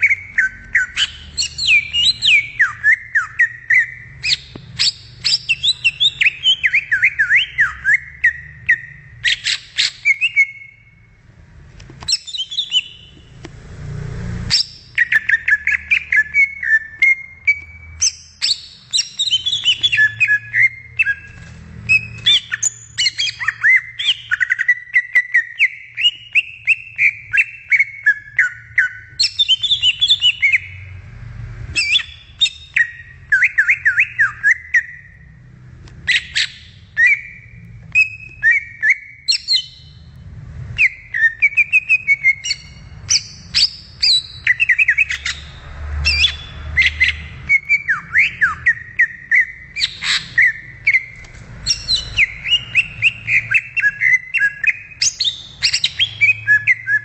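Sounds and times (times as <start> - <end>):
bird singing varied whistles: 0.0 - 11.1, 12.0 - 13.2, 14.5 - 30.8, 31.8 - 35.2, 36.0 - 40.0, 40.8 - 57.0.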